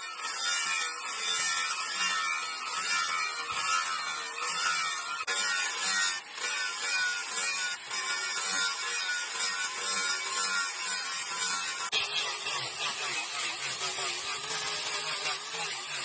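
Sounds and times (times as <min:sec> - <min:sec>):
tool rasping on knife blade: 0:00.0 - 0:16.0.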